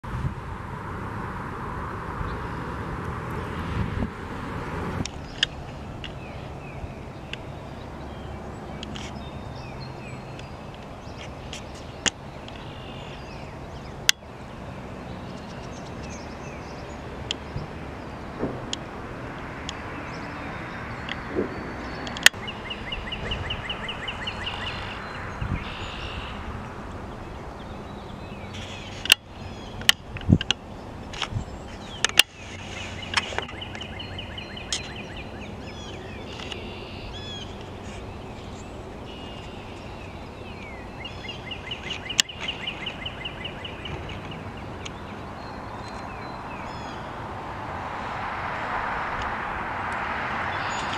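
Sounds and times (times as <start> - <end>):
bird calls: 5.1 - 48.3, 50.0 - 50.9.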